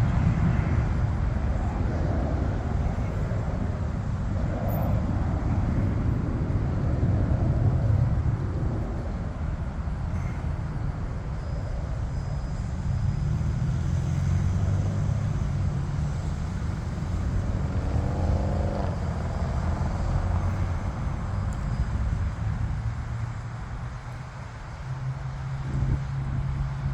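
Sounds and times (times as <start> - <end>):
jet engines rumbling: 0.0 - 26.9
rising jet whine: 0.1 - 26.9.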